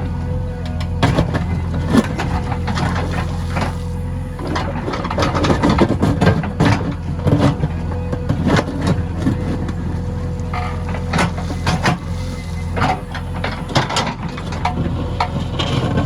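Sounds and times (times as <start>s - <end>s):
backhoe loader engine hum: 0.0s - 16.0s.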